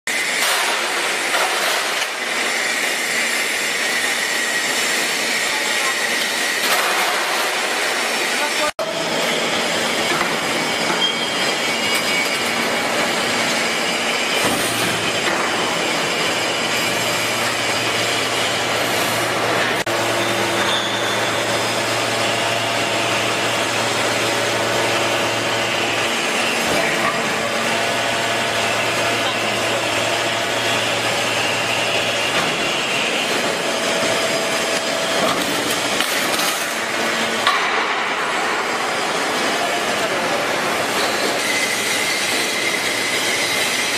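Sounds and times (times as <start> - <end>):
hydraulic baler running: 0.1 - 43.9
machine hum: 0.1 - 43.9.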